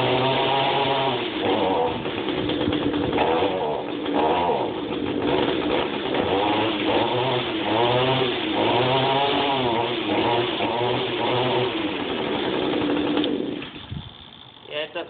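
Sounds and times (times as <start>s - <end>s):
string trimmer engine surging: 0.0s - 15.0s.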